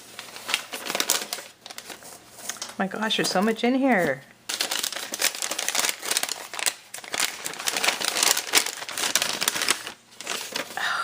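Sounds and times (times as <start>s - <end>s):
wrapping paper crinkling: 0.0s - 10.8s.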